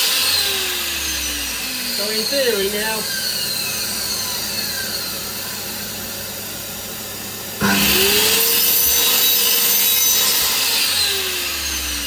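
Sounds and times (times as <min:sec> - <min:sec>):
saw blade winding down: 0:00.0 - 0:06.2, 0:07.6 - 0:12.0
saw motor whining: 0:00.0 - 0:12.0.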